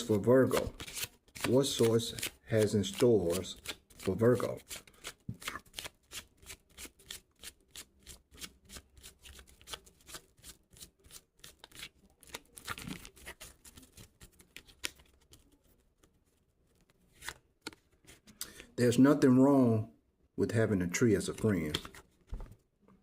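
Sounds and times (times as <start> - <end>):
cards being shuffled by hand: 0.0 - 18.4, 21.2 - 22.6.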